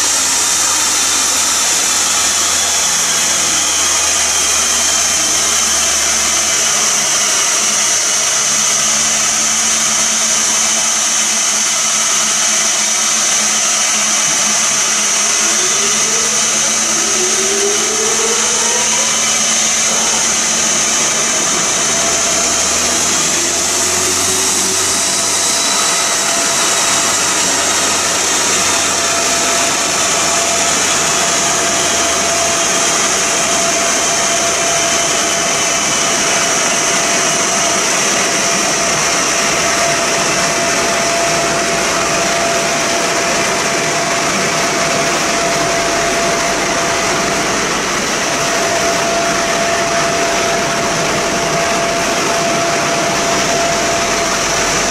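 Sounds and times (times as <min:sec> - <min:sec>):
dynamometer fan and rollers roaring: 0:00.0 - 0:54.9
faint steady whine: 0:00.0 - 0:54.9.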